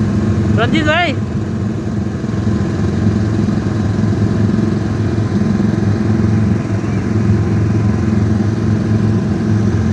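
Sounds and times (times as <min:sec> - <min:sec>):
car engine humming: 0:00.0 - 0:09.9.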